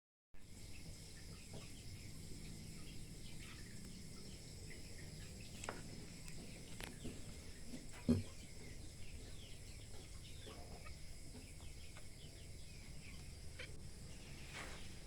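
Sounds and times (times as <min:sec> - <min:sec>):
bird chirps: 0:00.4 - 0:15.0
high insect drone: 0:00.4 - 0:15.0.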